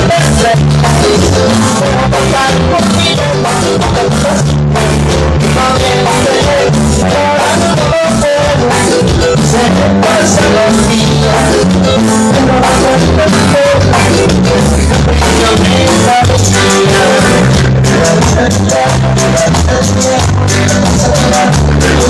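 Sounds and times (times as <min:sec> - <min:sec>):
latin dance band with singing: 0:00.0 - 0:22.0.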